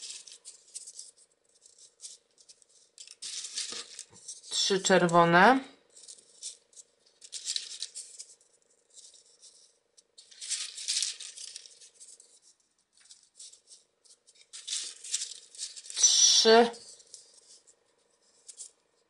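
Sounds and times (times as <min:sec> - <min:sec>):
paper pieces rustling and rattling: 0:00.0 - 0:04.6, 0:05.9 - 0:18.8.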